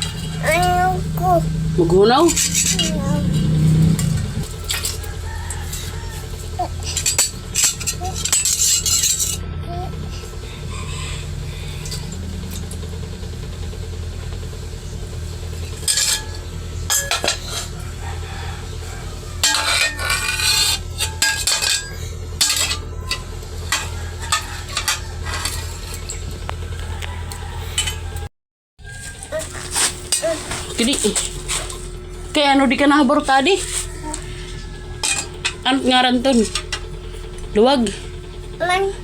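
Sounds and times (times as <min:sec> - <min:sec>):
steady low hum: 0:00.0 - 0:24.1, 0:28.9 - 0:39.0.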